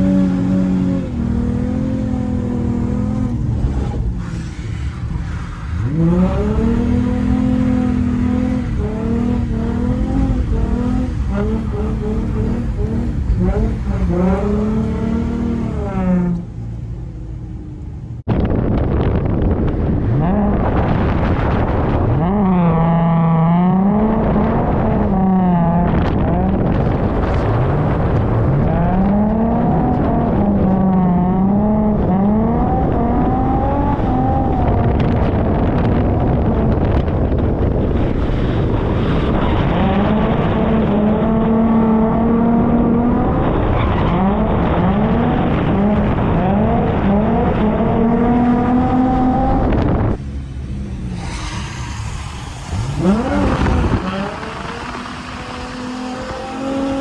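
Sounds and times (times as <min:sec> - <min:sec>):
car engine revving: 0:00.0 - 0:18.3, 0:19.0 - 0:57.0.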